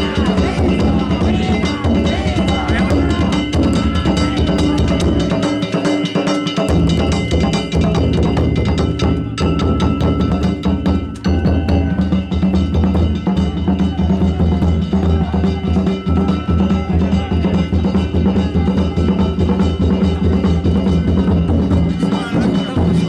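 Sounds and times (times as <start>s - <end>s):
big taiko drum beating: 0.0s - 23.0s.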